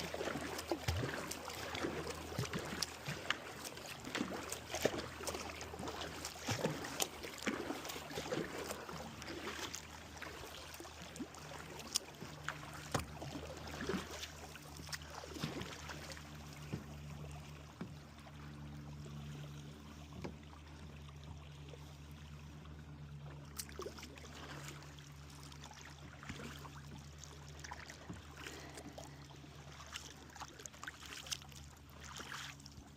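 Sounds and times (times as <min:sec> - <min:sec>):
paddle splashing in water: 0:00.0 - 0:32.9
water trickling off paddle: 0:00.0 - 0:32.9.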